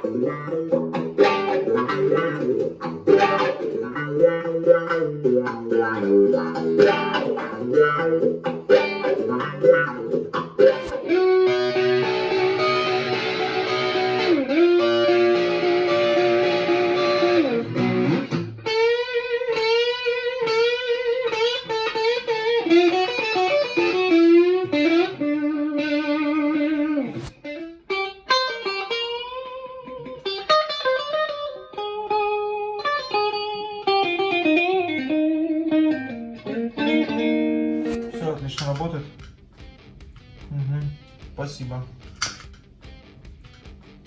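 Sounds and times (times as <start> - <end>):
overdriven electric guitar: 0.0 - 44.0.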